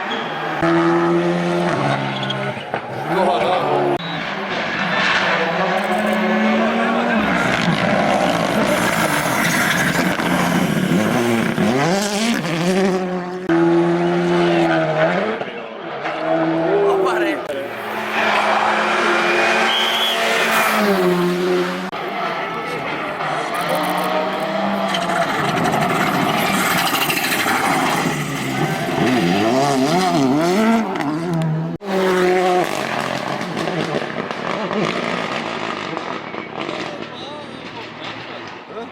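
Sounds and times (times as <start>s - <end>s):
rally car engine revving: 0.0s - 38.9s
tyre and road noise: 0.0s - 38.9s.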